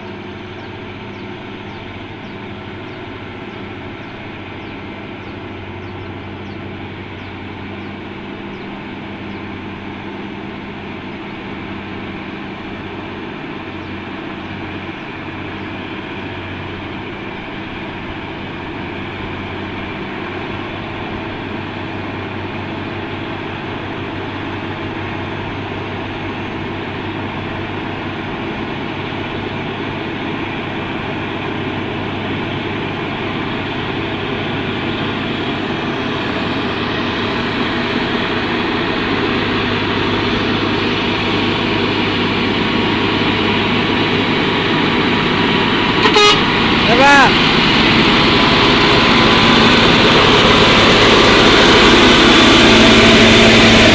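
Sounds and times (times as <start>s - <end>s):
heavy truck engine labouring uphill: 0.0s - 53.9s.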